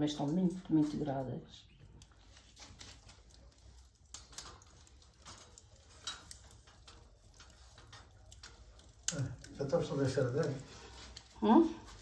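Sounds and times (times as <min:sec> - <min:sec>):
light clicks and ticks: 0:00.2 - 0:12.0.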